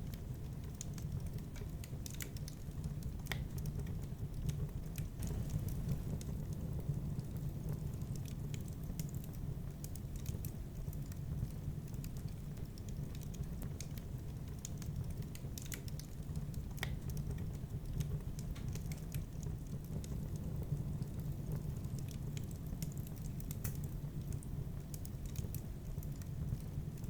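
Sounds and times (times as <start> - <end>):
low steady rumble: 0.0 - 27.0
wood fire crackling: 0.0 - 27.0.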